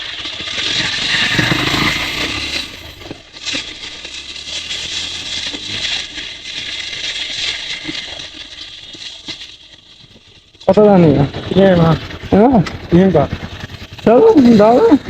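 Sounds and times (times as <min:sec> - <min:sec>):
motorcycle rattling on dirt track: 0:00.0 - 0:15.0.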